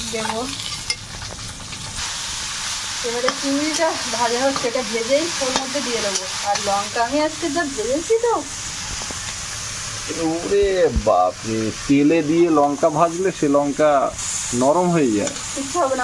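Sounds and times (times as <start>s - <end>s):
prawns sizzling in hot oil: 0.0s - 16.0s.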